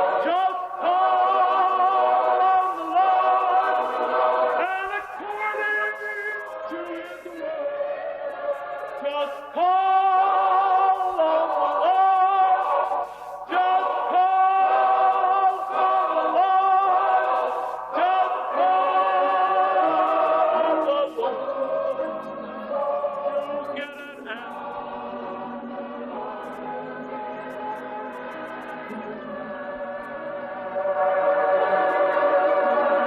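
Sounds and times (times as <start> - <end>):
church choir singing: 0.0 - 33.0.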